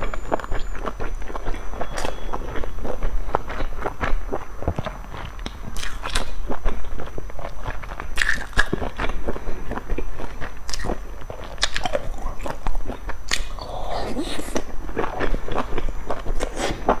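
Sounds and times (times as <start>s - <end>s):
wet eating smacks and chewing: 0.4s - 17.0s.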